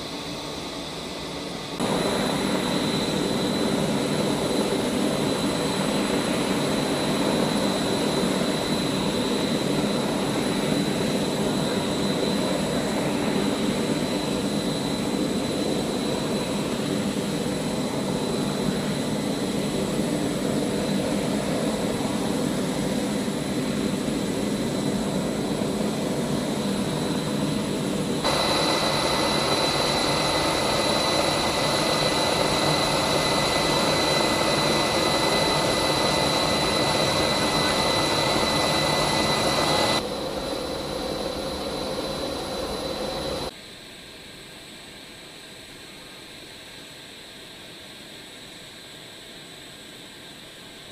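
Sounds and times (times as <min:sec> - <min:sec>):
lower whine: 0:00.0 - 0:43.5
gas turbine whine and rumble: 0:00.0 - 0:43.6.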